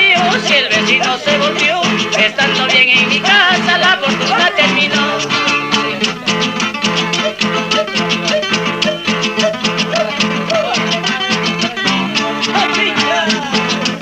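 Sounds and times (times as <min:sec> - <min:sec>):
folk ensemble playing: 0:00.0 - 0:14.0.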